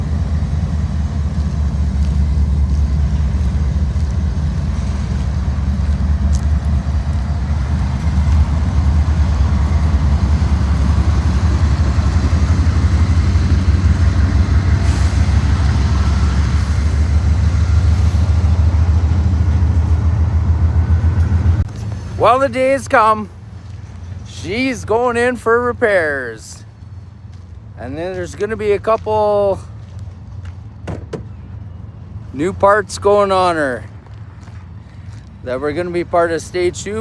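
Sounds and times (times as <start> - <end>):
pickup engine and road rumble: 0.0 - 37.0.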